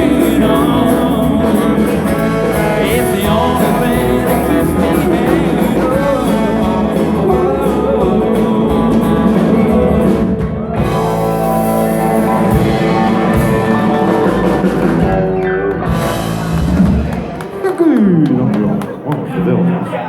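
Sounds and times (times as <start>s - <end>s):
falling slide guitar: 0.0s - 17.4s
drum kit: 0.0s - 18.3s
electric guitar: 0.0s - 18.8s
country-rock band playing: 0.0s - 18.9s.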